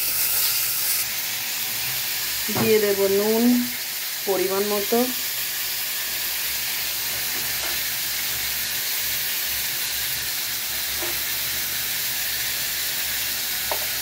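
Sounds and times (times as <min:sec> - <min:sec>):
potatoes sizzling in hot oil: 0:00.0 - 0:14.0.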